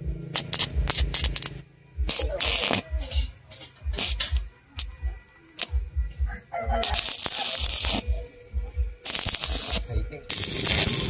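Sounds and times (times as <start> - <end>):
welding arc crackling and hissing: 0.0 - 6.1, 6.8 - 11.0.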